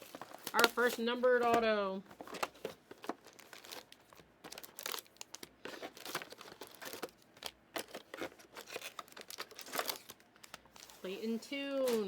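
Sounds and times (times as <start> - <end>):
card pack wrappers crinkling: 0.0 - 1.6, 2.2 - 12.0.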